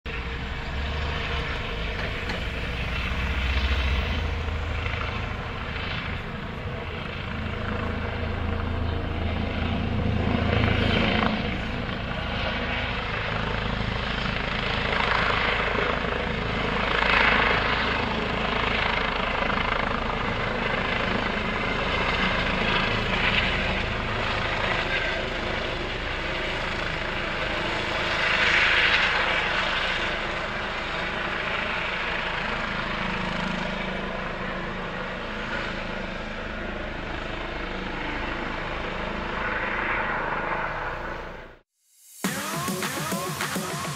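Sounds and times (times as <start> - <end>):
helicopter flying low: 0.1 - 41.6, 42.3 - 43.9.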